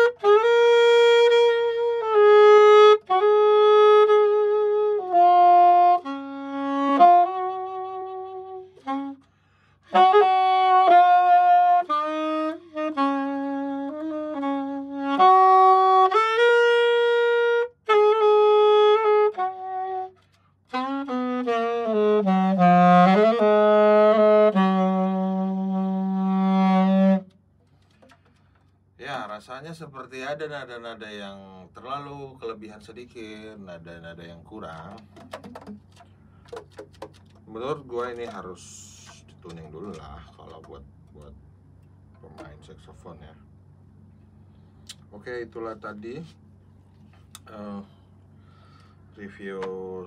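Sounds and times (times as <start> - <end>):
alto saxophone melody: 0.0 - 28.7, 33.4 - 50.0.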